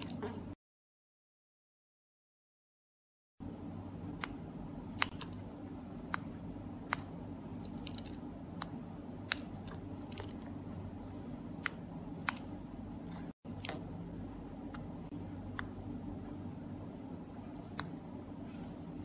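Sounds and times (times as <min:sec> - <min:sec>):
steady low hum: 0:03.4 - 0:19.0.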